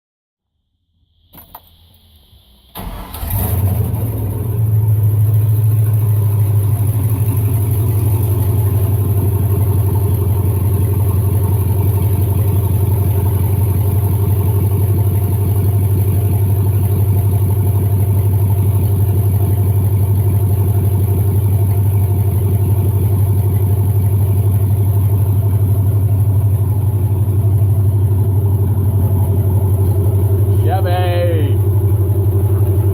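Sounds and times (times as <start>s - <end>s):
engine starting and idling: 1.0s - 32.9s.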